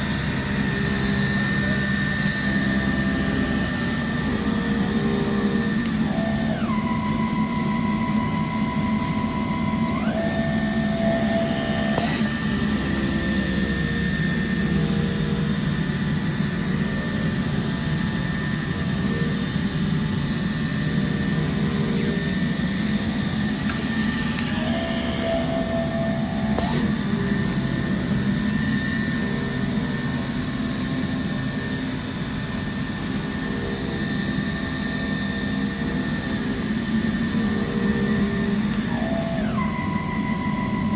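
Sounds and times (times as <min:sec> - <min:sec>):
cutting machine rushing and whining: 0:00.0 - 0:19.6, 0:20.2 - 0:29.8, 0:36.1 - 0:40.9
motor tone: 0:00.0 - 0:31.8, 0:32.7 - 0:40.9.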